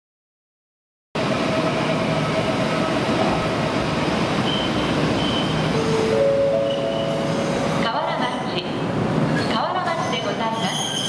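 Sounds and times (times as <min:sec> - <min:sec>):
electric trains standing noise: 0:01.2 - 0:11.0.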